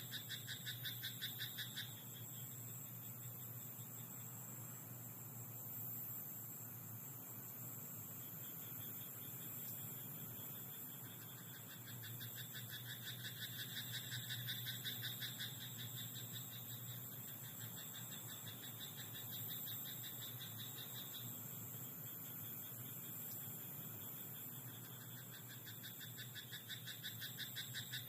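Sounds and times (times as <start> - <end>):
frogs croaking: 0.0 - 28.0
insect hum: 0.0 - 28.0.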